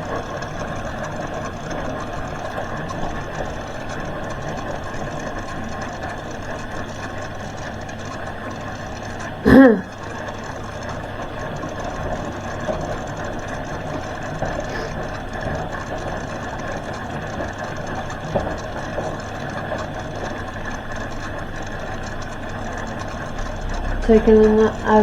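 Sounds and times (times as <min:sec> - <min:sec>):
washing machine churning: 0:00.0 - 0:25.0.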